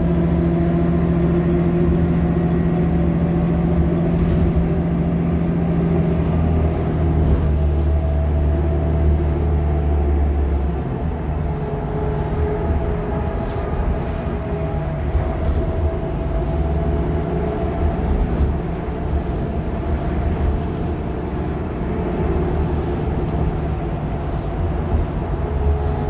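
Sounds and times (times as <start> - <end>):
bus engine rumbling: 0.0 - 26.0.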